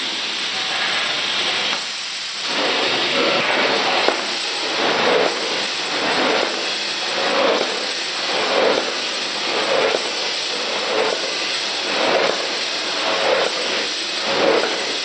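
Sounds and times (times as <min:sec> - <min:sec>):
packaging machine running: 0:02.3 - 0:15.0.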